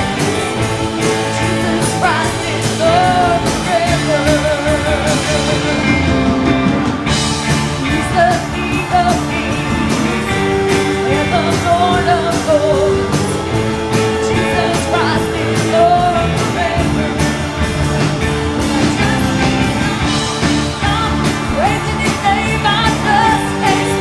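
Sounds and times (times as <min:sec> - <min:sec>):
band playing: 0:00.0 - 0:24.0
drums keeping steady beat: 0:00.0 - 0:24.0.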